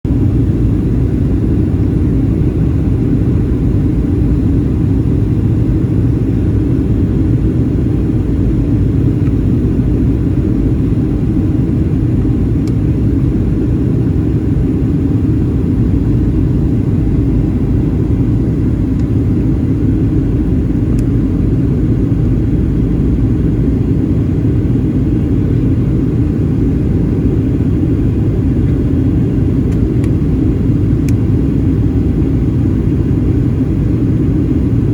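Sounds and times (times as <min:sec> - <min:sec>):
airliner engine drone in flight: 0:00.0 - 0:34.9.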